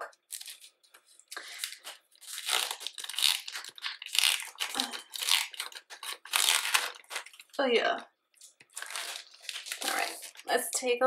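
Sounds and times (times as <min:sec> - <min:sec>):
plastic sleeve crinkling: 0:00.0 - 0:07.7, 0:08.3 - 0:10.7.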